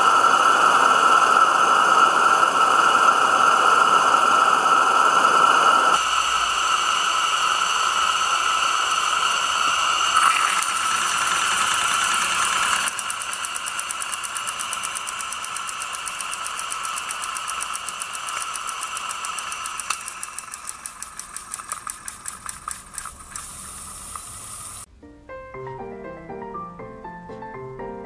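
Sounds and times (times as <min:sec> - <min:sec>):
gas burner hissing: 0:00.0 - 0:24.9
model steam engine exhaust beats: 0:00.0 - 0:24.9.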